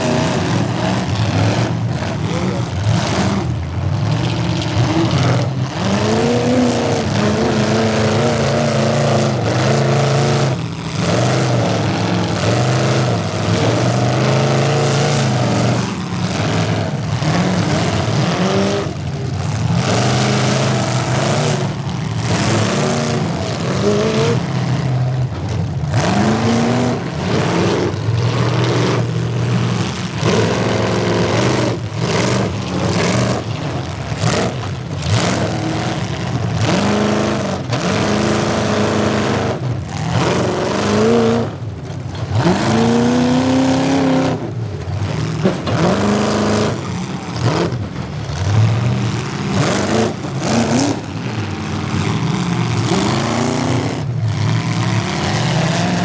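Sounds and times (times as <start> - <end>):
car engines revving hard: 0.0 - 56.0.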